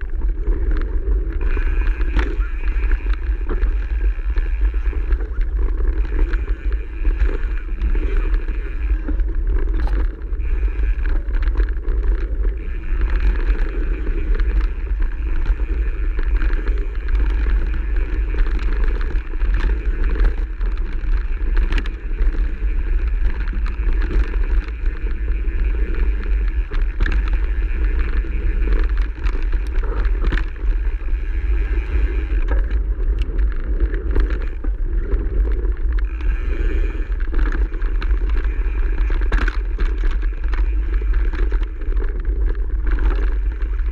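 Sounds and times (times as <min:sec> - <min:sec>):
bike clicks and rattles: 0:00.0 - 0:43.9
tyres on dirt and gravel: 0:00.0 - 0:43.9
wind buffeting: 0:00.0 - 0:43.9.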